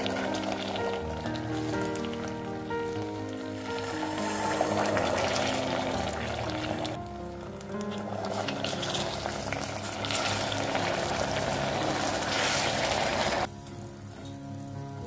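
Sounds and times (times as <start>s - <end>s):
caramel boiling in a saucepan: 0.0s - 13.5s
soft background music: 0.0s - 15.0s.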